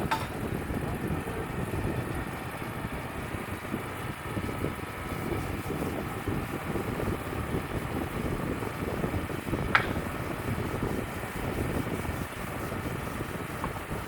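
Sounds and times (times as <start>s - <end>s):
band sawmill running: 0.0s - 14.0s
wind buffeting microphone: 0.0s - 14.0s.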